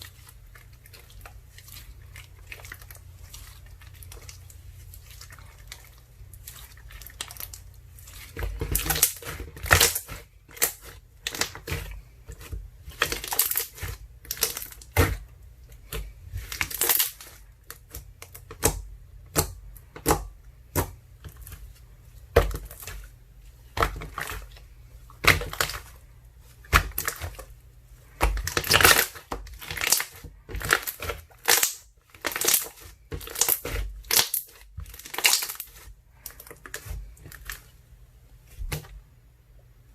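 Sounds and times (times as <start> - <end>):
slime crackling and squishing: 0.0 - 38.8.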